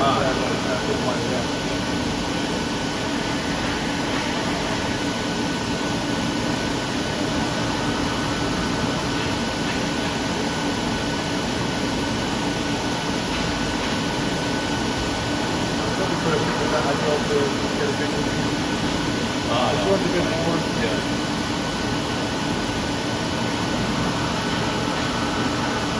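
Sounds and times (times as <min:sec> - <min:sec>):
machining centre humming: 0:00.0 - 0:25.9.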